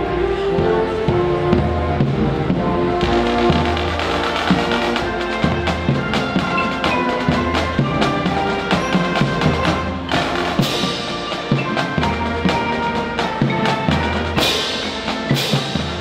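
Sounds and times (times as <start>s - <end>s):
music with drums and bass: 0.5s - 16.0s.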